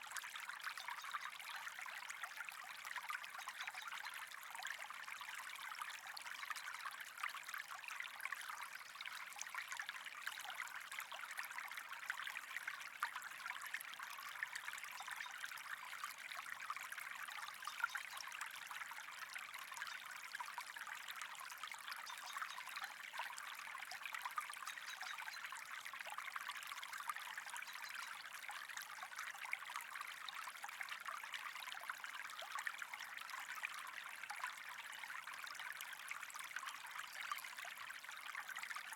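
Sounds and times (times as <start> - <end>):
water trickling and bubbling: 0.0 - 38.9.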